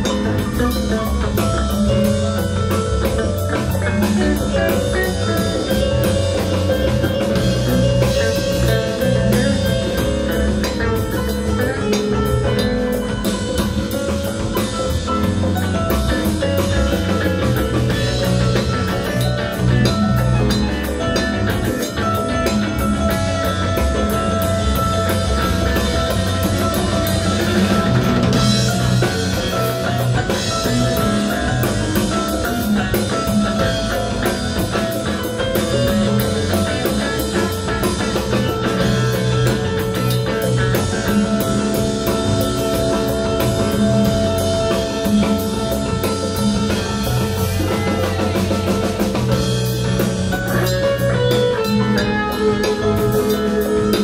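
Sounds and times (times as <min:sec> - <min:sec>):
bass: 0:00.0 - 0:54.0
drum kit: 0:00.0 - 0:54.0
electric guitar: 0:00.0 - 0:54.0
keyboards: 0:00.0 - 0:54.0.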